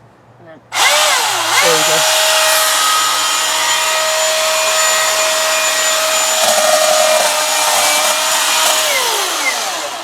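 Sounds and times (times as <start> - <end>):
battery chainsaw motor whine: 0.7 - 10.0.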